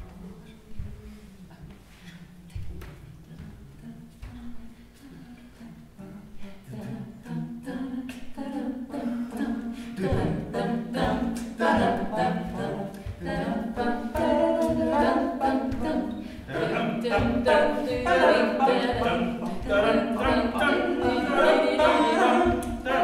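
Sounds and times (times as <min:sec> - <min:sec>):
person singing unaccompanied: 0:03.3 - 0:23.0.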